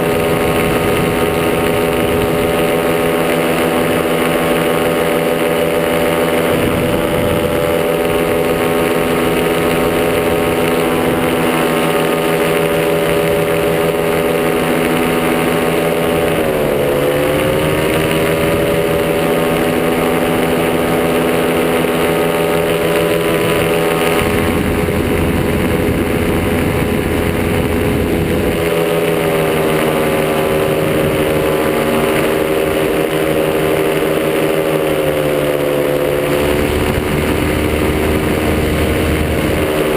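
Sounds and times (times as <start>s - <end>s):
paramotor engine running: 0.0s - 39.9s
wind buffeting microphone: 0.0s - 39.9s.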